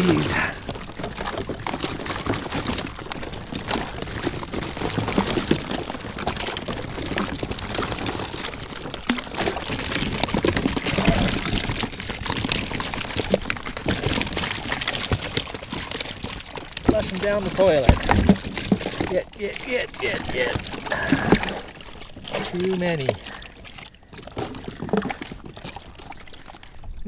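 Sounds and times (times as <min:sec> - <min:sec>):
water splashing and pouring: 0:00.0 - 0:27.0.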